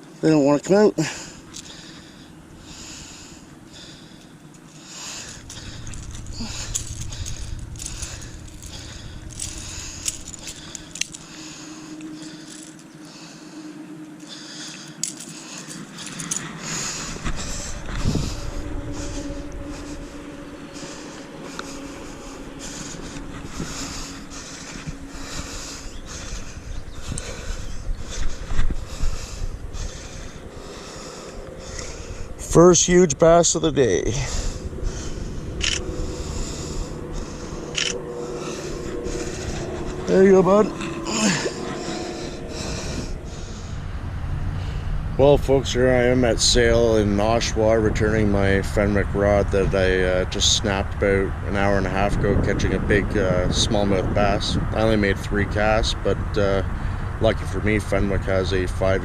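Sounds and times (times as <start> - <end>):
wind rumbling on microphone: 1.1 - 59.0.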